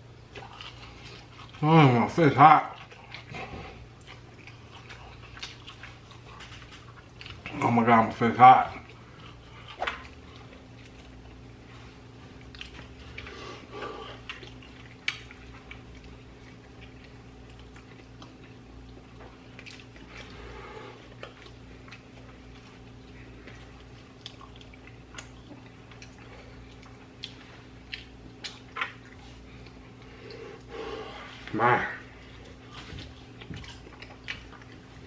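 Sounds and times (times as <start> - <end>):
low electrical hum: 0.0 - 35.0
person chewing food: 0.0 - 35.0.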